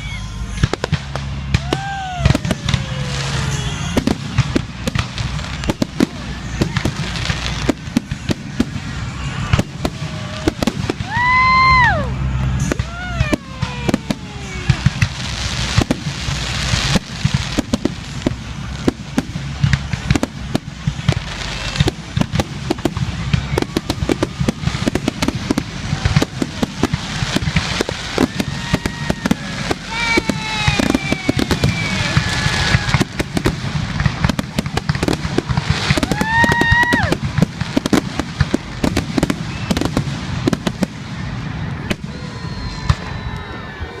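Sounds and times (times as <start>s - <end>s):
firework bangs and crackles: 0.0s - 44.0s
whistling fireworks: 0.0s - 44.0s.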